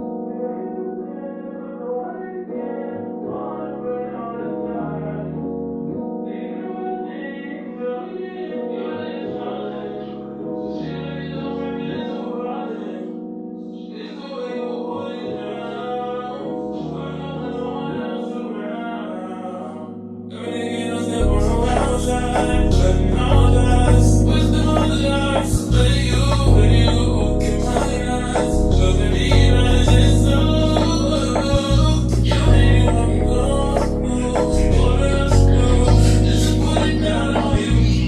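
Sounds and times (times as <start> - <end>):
slow piano and keyboard music: 0.0 - 38.0.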